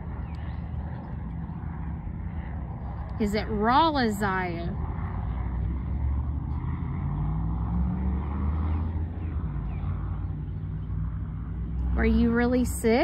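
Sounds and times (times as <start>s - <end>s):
faint engine hum: 0.0s - 13.0s
low rumble of road traffic: 0.0s - 13.0s.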